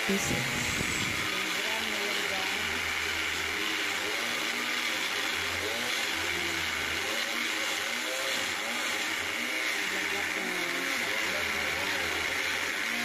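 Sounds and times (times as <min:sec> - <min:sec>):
power tool cutting plastic: 0:00.0 - 0:13.0.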